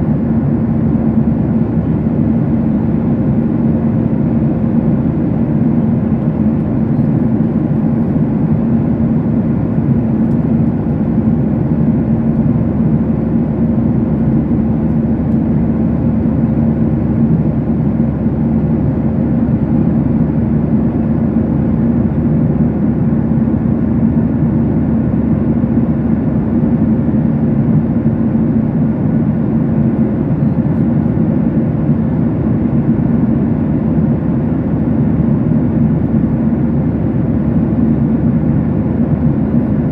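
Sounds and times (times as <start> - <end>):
engine and airflow rumble: 0.0 - 39.9
steady low hum: 0.0 - 39.9.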